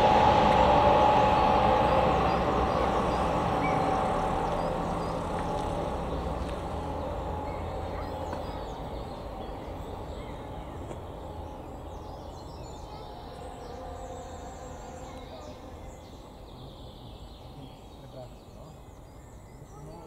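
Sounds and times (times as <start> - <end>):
car driving off: 0.0 - 17.3
small birds chirping: 1.3 - 20.0.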